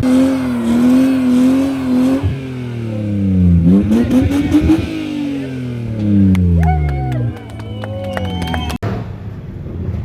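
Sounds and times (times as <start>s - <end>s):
car engine revving: 0.0s - 9.2s
exhaust crackles: 0.0s - 10.0s.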